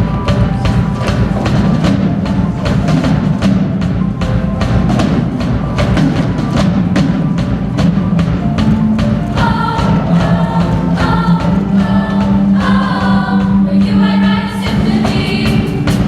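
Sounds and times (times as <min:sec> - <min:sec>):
instrumental music with drums: 0:00.0 - 0:16.0
steady clicking beat: 0:00.0 - 0:16.0.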